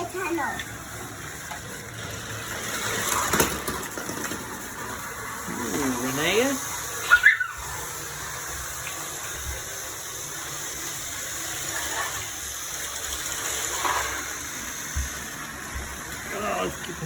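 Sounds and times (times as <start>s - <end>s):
toy trains whirring and rattling: 0.0s - 17.0s.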